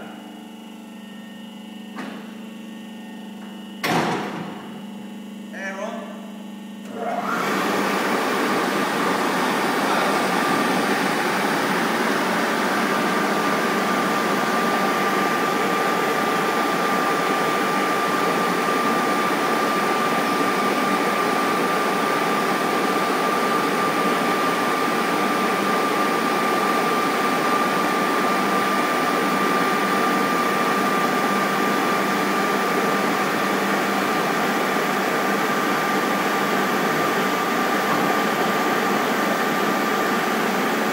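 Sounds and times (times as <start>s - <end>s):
air blower rushing with whine: 6.8s - 40.9s.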